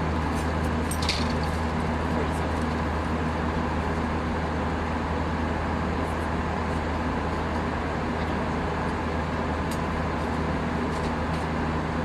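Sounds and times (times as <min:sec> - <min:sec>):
aircraft engine drone: 0:00.0 - 0:12.0
constant low hum: 0:00.0 - 0:12.0.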